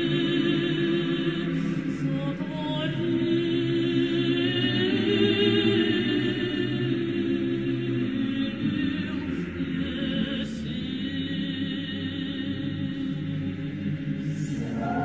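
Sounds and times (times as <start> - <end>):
choir singing chant: 0.0 - 15.0.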